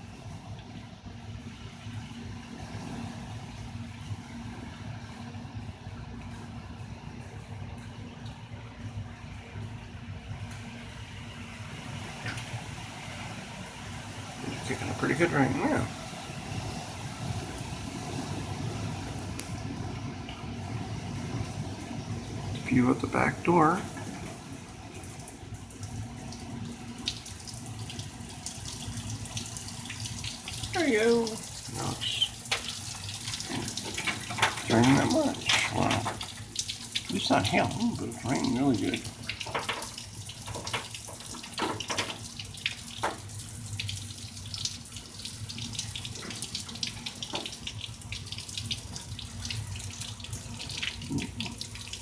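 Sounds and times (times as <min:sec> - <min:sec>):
drips and splashes: 0:00.0 - 0:52.0
heavy rain pouring: 0:09.1 - 0:52.0.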